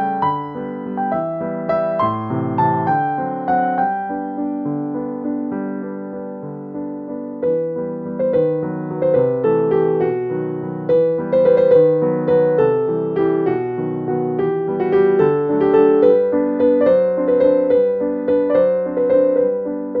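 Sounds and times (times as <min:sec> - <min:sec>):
gentle piano notes: 0:00.0 - 0:20.0.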